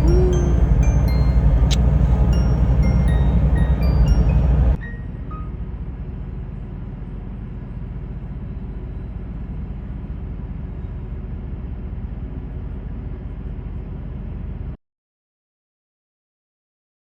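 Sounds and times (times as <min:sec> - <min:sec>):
ship engine low rumble: 0:00.0 - 0:14.8.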